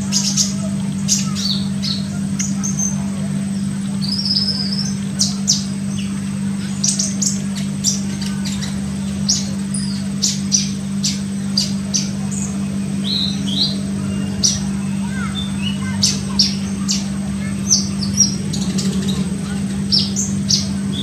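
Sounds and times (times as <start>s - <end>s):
steady low hum: 0.0s - 21.0s
sunbird chirping: 0.0s - 21.0s.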